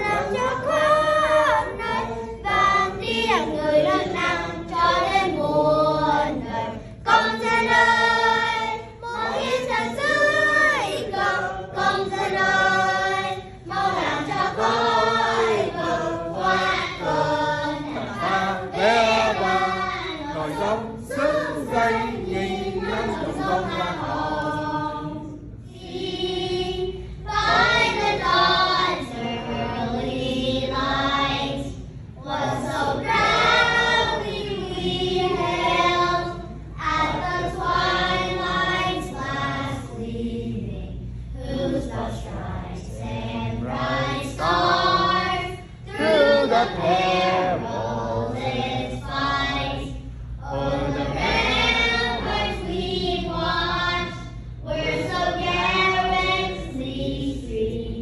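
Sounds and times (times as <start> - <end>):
crowd singing an anthem: 0.0 - 58.0.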